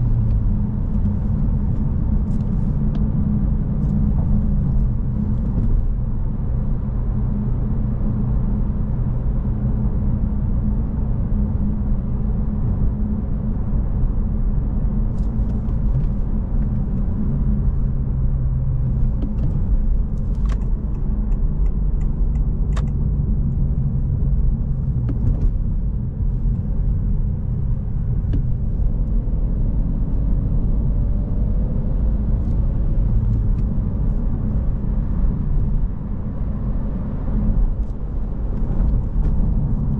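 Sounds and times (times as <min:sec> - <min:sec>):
car engine running at low revs: 0:00.0 - 0:39.9
road rumble: 0:00.0 - 0:39.9.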